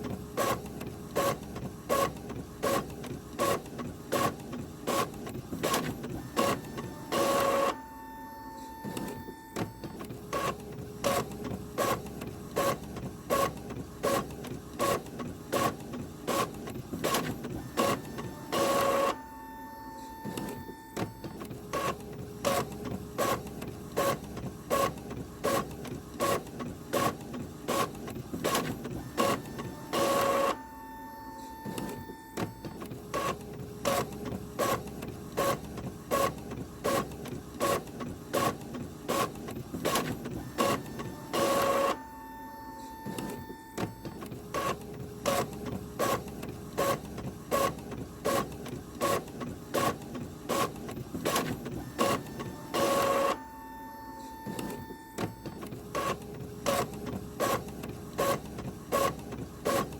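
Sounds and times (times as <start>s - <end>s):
printer feeding paper: 0.0s - 59.9s
loud printer mechanical burst: 0.2s - 59.9s.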